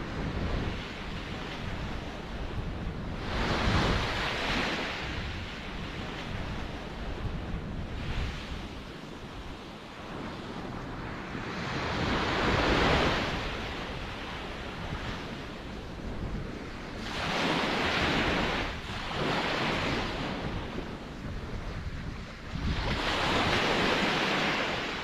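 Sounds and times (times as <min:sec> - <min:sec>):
ocean waves breaking on shore: 0:00.0 - 0:25.0
wind: 0:00.0 - 0:25.0.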